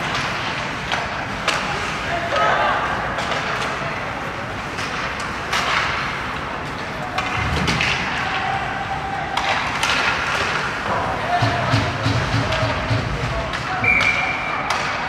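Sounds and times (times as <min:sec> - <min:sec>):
low spectator chatter: 0:00.0 - 0:15.0
stick and puck clacks: 0:00.0 - 0:15.0.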